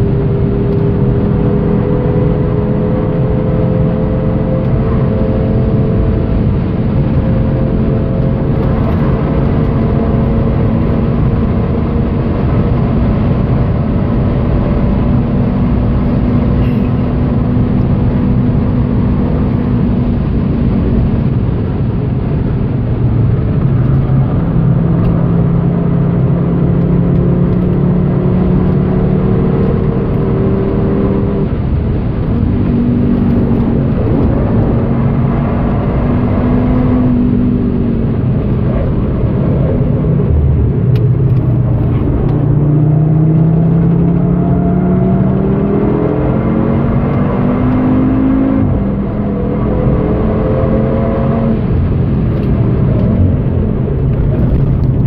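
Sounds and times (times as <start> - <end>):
car engine revving hard: 0.0 - 21.6, 22.9 - 55.0.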